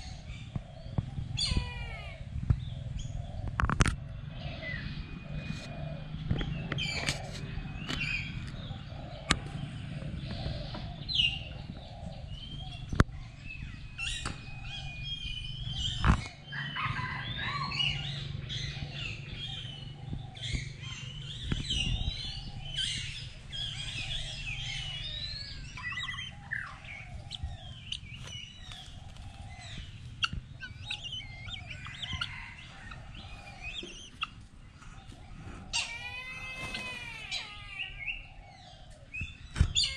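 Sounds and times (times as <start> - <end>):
steady low hum: 0.0 - 36.0
birds chirping and calling: 0.0 - 39.9.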